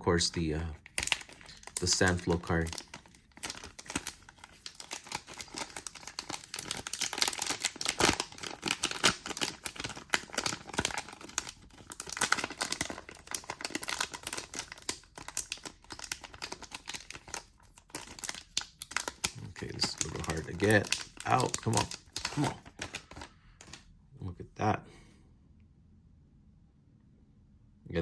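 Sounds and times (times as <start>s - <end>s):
plastic wrapper crinkling and tearing: 0.2s - 23.8s.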